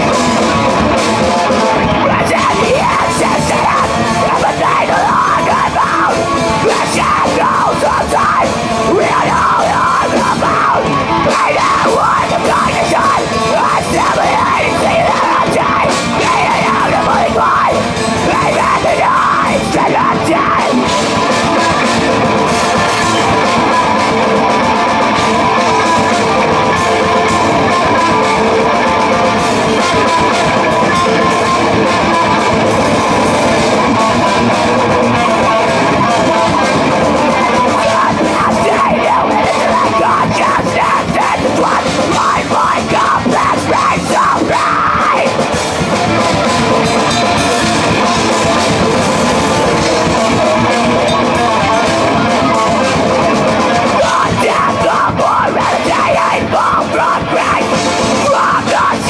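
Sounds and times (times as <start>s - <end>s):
distorted electric guitars: 0.0s - 59.0s
drum kit: 0.0s - 59.0s
electric bass: 0.0s - 59.0s
fast-picked guitar notes: 0.0s - 59.0s.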